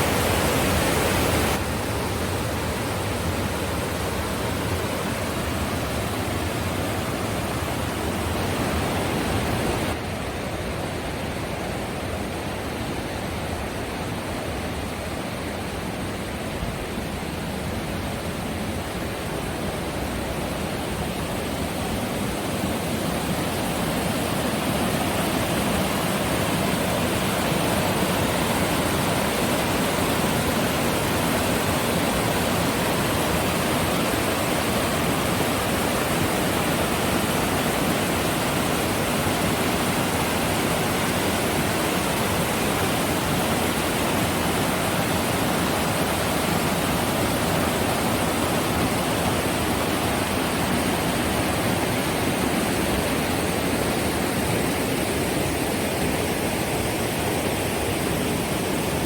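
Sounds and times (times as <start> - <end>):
whitewater rushing: 0.0 - 12.8, 13.6 - 59.0.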